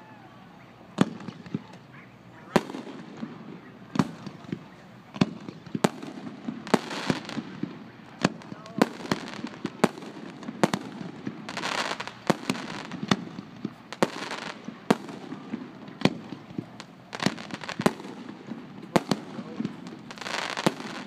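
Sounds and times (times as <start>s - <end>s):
fireworks crackling: 0.0s - 21.0s
fireworks booming: 1.0s - 21.0s.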